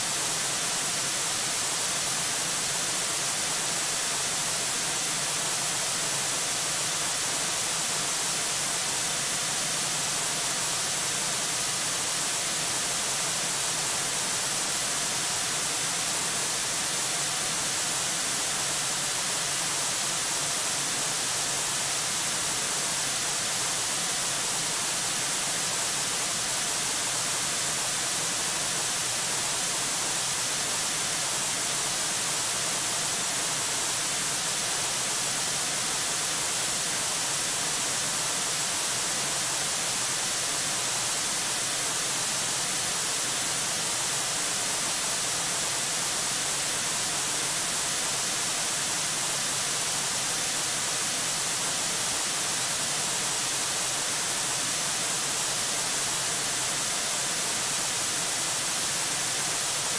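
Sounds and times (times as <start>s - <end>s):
static hiss: 0.0s - 59.9s.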